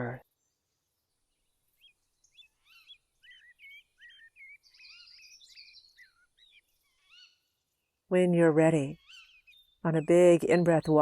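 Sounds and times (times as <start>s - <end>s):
high busy bird twittering: 0.0s - 11.0s
small birds chirping: 0.0s - 11.0s.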